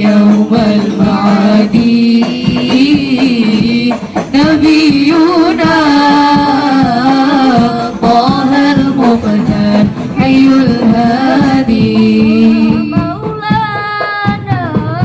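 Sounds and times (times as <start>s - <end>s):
steady drum accompaniment: 0.0s - 15.0s
woman singing devotional song: 0.0s - 15.0s.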